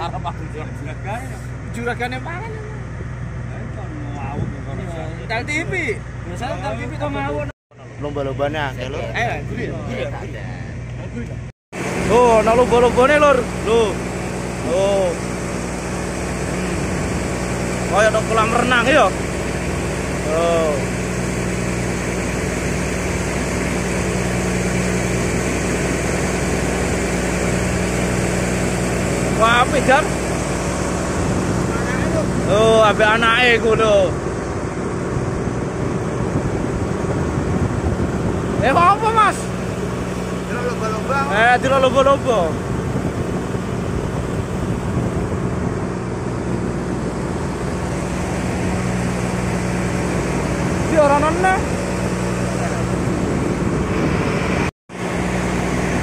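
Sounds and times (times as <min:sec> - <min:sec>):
boat engine droning: 0:00.0 - 0:56.0
wind: 0:00.0 - 0:56.0.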